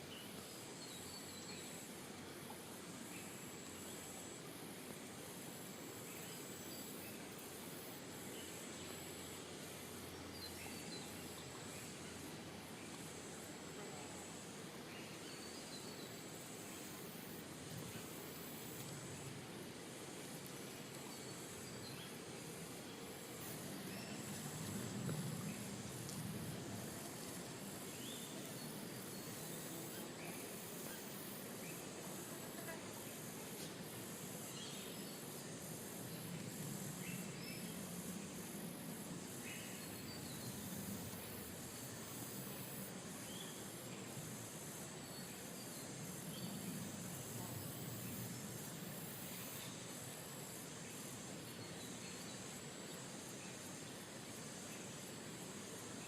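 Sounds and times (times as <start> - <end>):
low hiss: 0.0 - 56.0
insects calling in high pulses: 2.8 - 56.0.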